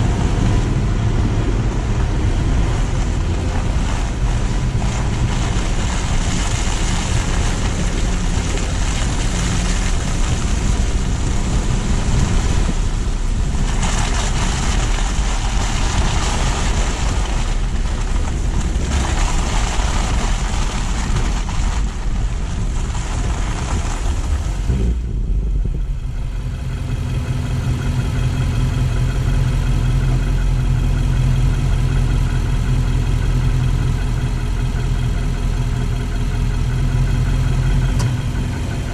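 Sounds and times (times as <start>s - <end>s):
car engine hum: 0.0s - 38.9s
tyre hiss and road noise: 0.0s - 38.9s.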